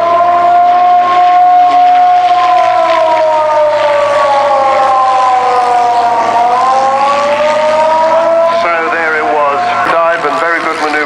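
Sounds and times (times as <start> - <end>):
air raid siren wailing: 0.0 - 11.0.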